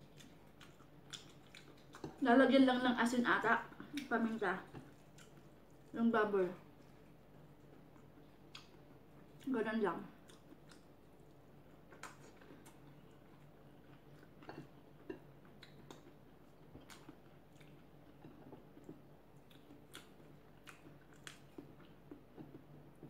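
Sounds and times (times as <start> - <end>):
faint chewing: 0.0 - 23.0.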